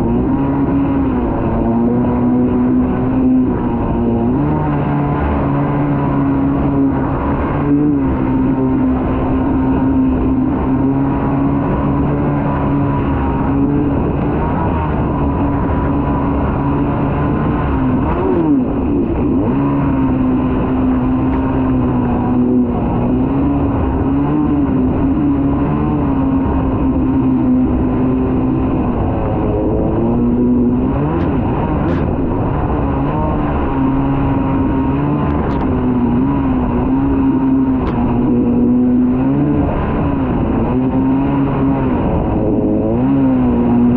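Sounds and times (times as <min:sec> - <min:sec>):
jet ski engine revving: 0:00.0 - 0:43.9.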